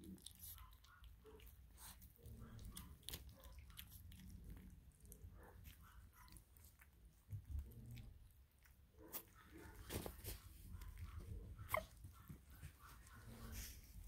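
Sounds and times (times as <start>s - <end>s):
puppies lapping food: 0.0s - 13.9s.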